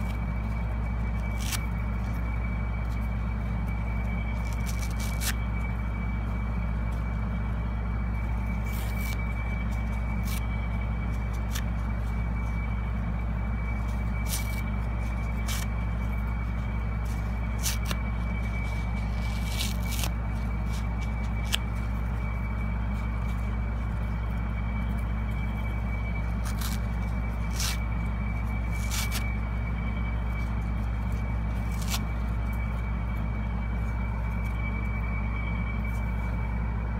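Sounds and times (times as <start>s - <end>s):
wet sponge squishing: 0.0s - 35.0s
faint high whine: 0.0s - 36.9s
steady low hum: 0.0s - 36.9s.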